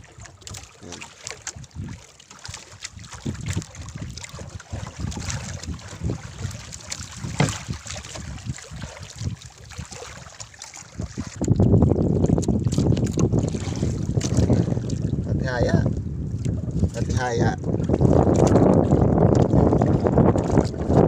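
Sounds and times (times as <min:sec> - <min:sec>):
water splashing: 0:00.0 - 0:21.0
wind buffeting microphone: 0:00.1 - 0:21.0
handling knocks in a boat: 0:00.4 - 0:09.2, 0:10.8 - 0:15.0, 0:16.4 - 0:21.0.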